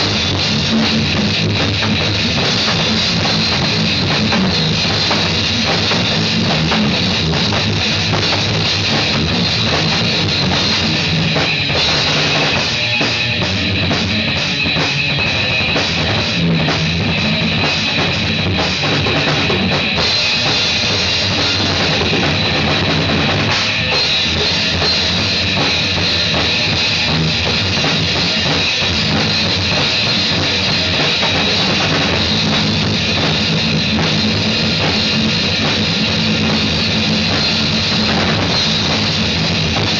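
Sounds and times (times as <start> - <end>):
bass drum: 0.0 - 39.9
guitar: 0.0 - 39.9
rock music jam: 0.0 - 39.9.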